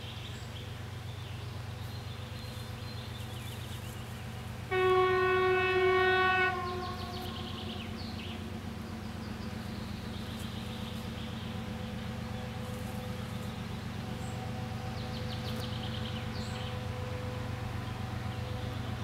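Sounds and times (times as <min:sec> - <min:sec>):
birds chirping: 0:00.0 - 0:19.0
diesel locomotive engine drone: 0:00.0 - 0:19.0.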